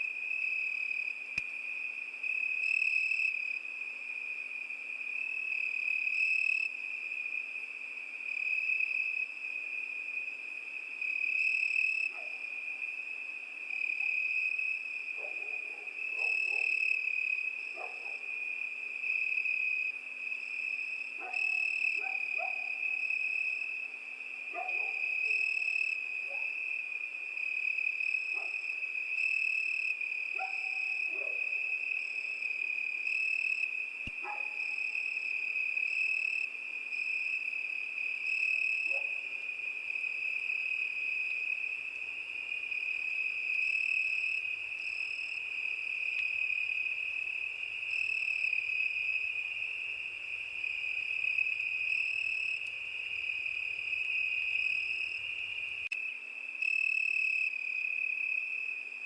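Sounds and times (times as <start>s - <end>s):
insect chirping: 0.0s - 59.0s
crickets trilling: 0.1s - 59.0s.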